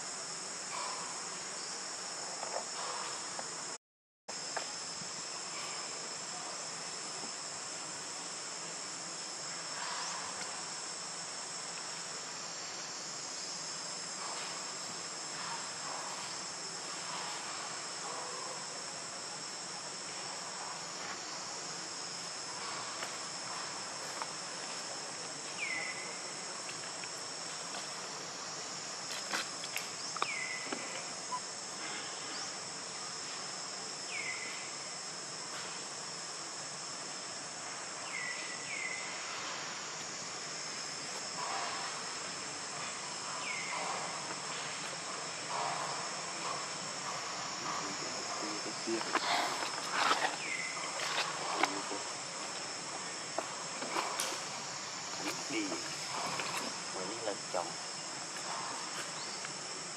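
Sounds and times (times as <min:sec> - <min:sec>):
insects chorus: 0:00.0 - 0:59.9.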